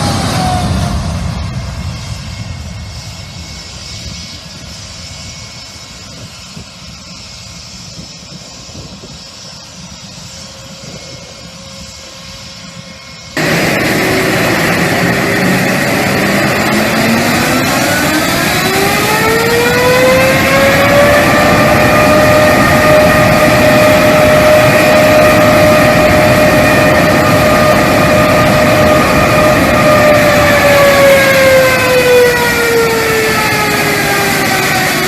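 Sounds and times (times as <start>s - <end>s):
airplane engine noise: 0.0s - 35.0s
engine whine: 0.0s - 35.0s.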